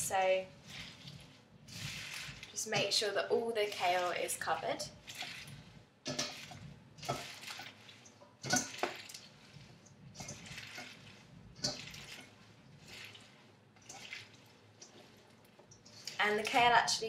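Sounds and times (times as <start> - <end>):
hands squelching wet leaves: 0.0 - 16.8.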